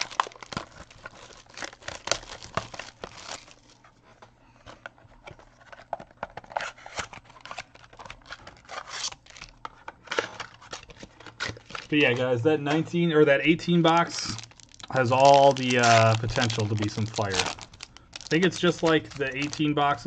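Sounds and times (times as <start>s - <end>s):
plastic wrapping crinkling: 0.0s - 3.9s, 5.1s - 13.0s, 13.7s - 20.0s.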